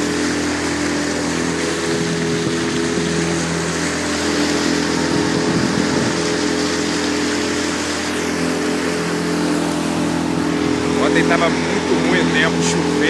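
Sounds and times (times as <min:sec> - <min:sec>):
boat motor humming: 0:00.0 - 0:13.0
water rushing: 0:00.0 - 0:13.0
wind: 0:00.0 - 0:13.0.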